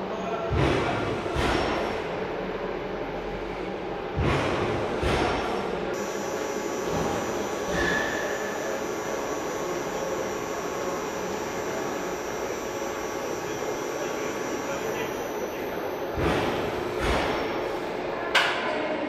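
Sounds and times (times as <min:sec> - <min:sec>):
factory machinery hum: 0:00.0 - 0:19.0.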